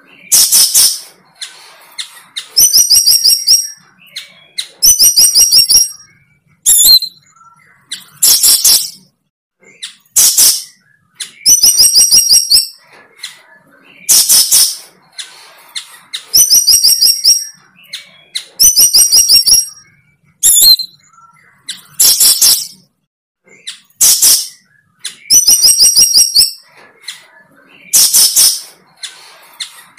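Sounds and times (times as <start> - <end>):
bird trilling high chirps: 0.1 - 29.9.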